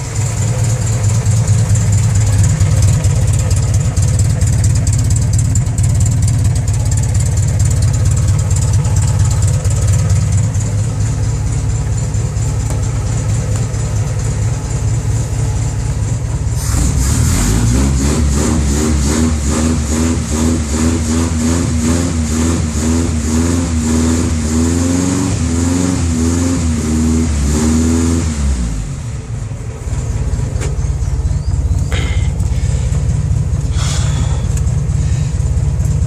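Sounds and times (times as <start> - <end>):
car engine revving and idling: 0.0 - 36.0.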